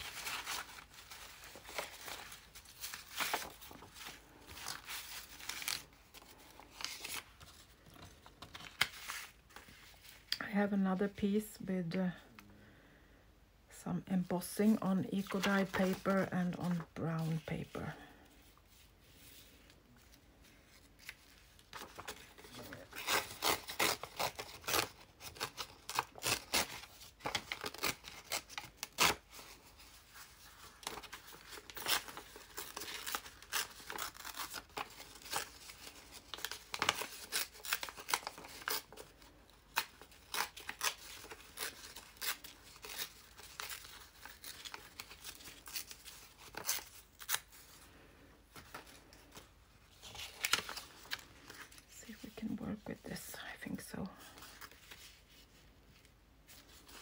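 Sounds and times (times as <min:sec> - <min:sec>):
paper tearing and rustling: 0:00.0 - 0:10.4, 0:15.2 - 0:18.0, 0:18.7 - 0:47.8, 0:48.5 - 0:51.9.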